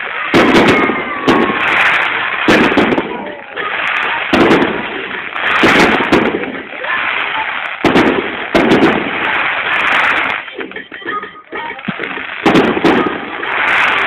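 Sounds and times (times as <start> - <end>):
fireworks banging: 0.0 - 14.0
fireworks crackling: 0.0 - 14.0.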